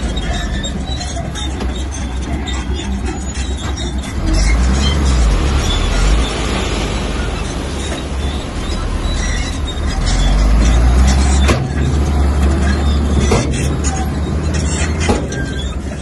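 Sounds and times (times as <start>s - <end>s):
bulldozer diesel engine under load: 0.0s - 16.0s
metallic track noise: 0.0s - 16.0s.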